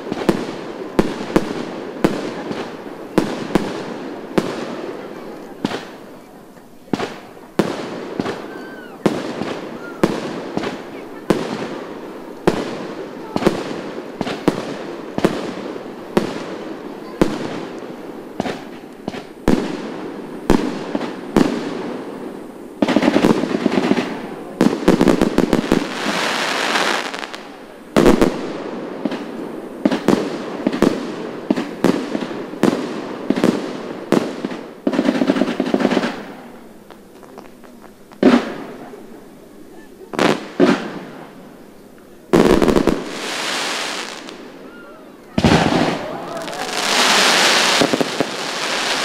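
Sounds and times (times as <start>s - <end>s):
fireworks bangs: 0.0s - 49.0s
fireworks crackling hiss: 0.0s - 49.0s.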